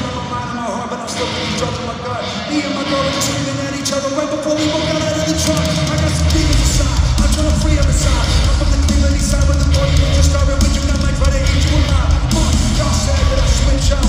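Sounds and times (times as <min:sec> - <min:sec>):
drums: 0:00.0 - 0:14.0
electric guitar: 0:00.0 - 0:14.0.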